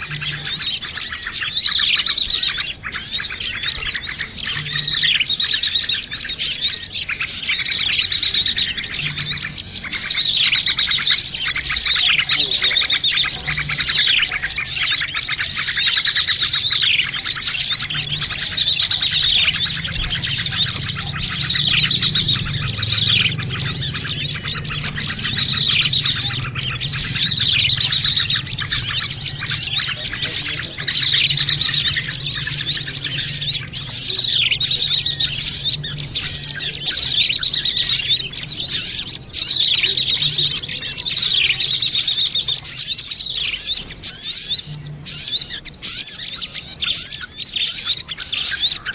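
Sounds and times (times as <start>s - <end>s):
falling bird calls: 0.0s - 48.9s
small birds chirping and trilling: 0.0s - 48.9s.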